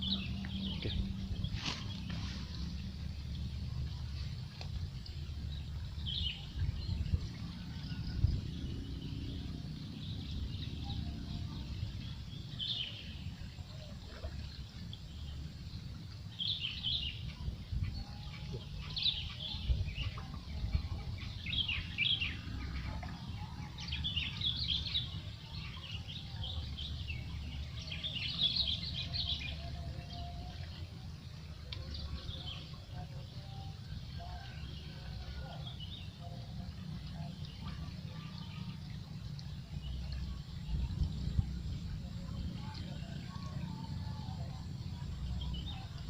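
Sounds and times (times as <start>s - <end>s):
low rumble: 0.0s - 46.0s.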